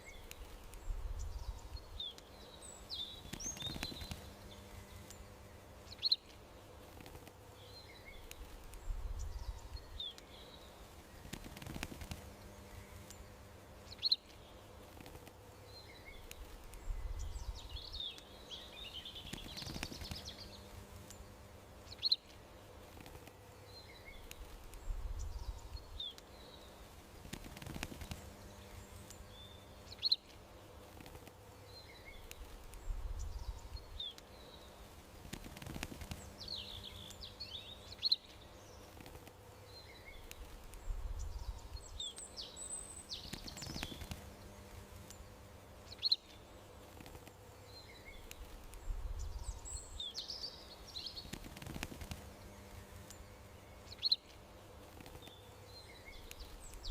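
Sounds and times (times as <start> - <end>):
faint steady hum: 0.0 - 56.9
small birds chirping: 0.0 - 56.9.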